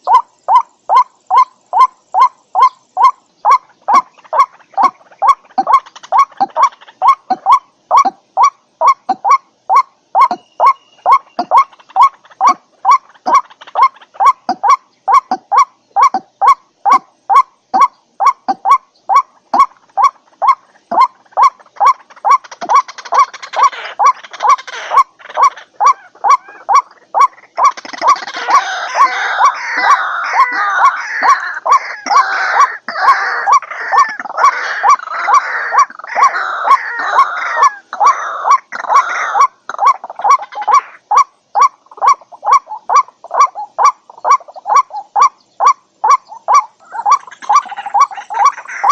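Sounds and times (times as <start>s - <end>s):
chorus of overlapping bird calls: 0.0s - 48.9s
waterhen repeated call notes: 0.0s - 48.9s.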